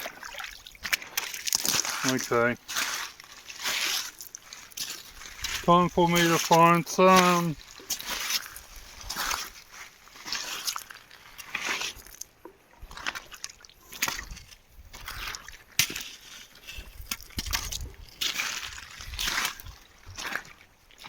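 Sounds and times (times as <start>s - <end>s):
water sloshing from wading: 0.0s - 21.0s.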